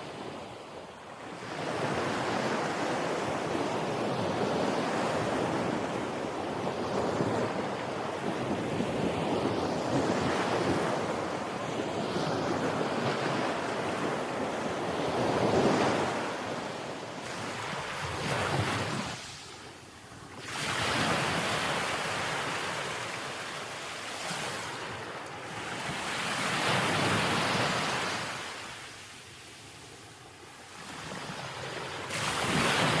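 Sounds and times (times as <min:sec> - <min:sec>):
sea waves breaking on shore: 0:00.0 - 0:33.0
wind: 0:00.0 - 0:33.0.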